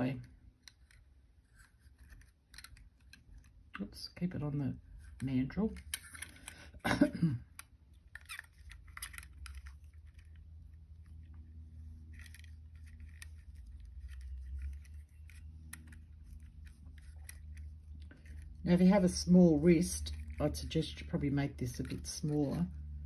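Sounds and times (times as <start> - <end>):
wire clicking and scraping on metal: 0.0 - 3.9, 7.5 - 22.9.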